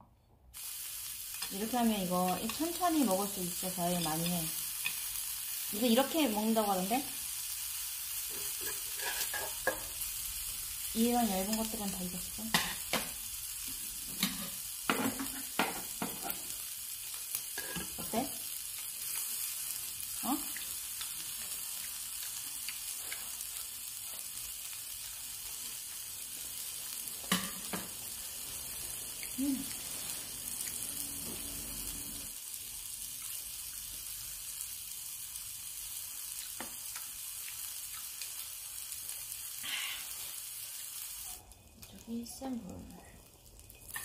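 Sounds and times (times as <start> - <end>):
pork sizzling on a grill pan: 0.6 - 44.0.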